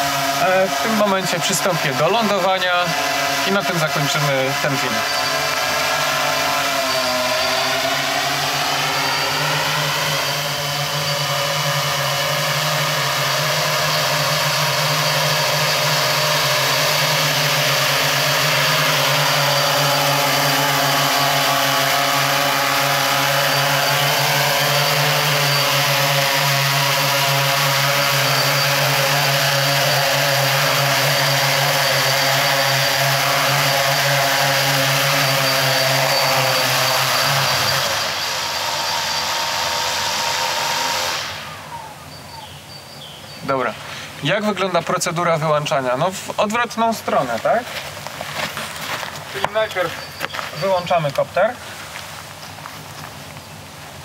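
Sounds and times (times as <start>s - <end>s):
drone motors and propellers whirring: 0.0s - 43.6s.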